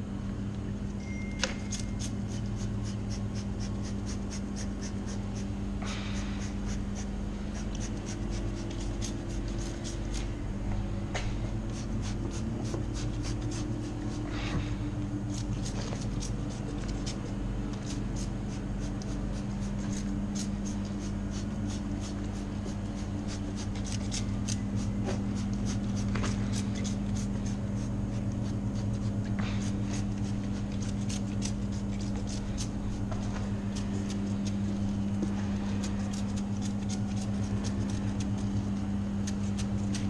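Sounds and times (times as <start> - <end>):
low motor hum: 0.0 - 40.0.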